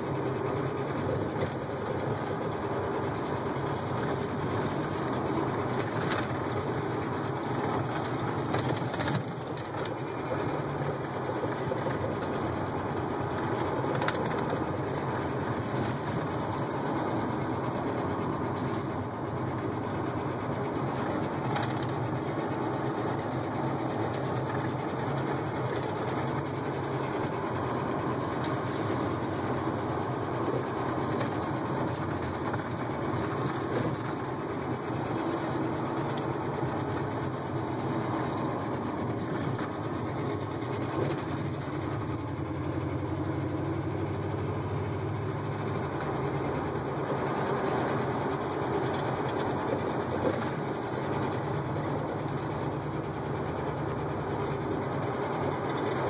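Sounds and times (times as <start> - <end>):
continuous mechanical rattle: 0.0 - 56.0
truck engine and road noise: 0.0 - 56.0.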